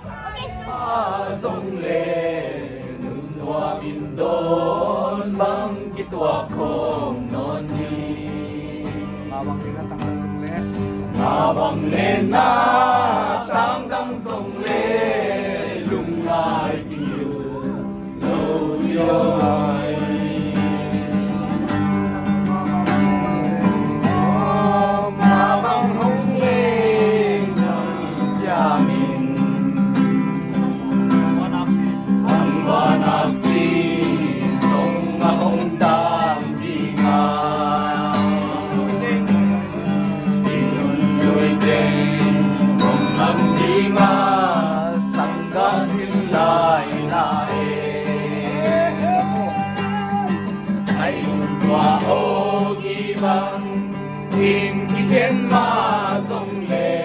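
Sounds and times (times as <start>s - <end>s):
people singing: 0.0s - 9.8s, 10.6s - 57.0s
acoustic guitar: 0.0s - 57.0s.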